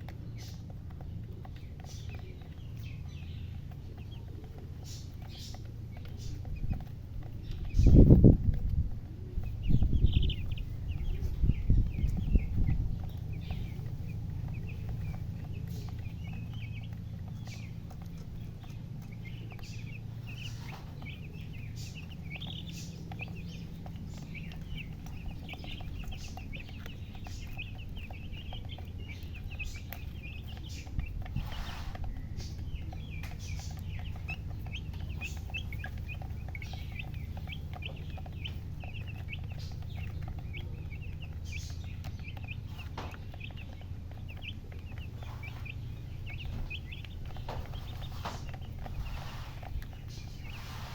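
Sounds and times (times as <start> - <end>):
baby chicks peeping: 0.0 - 50.9
steady low hum: 0.0 - 50.9.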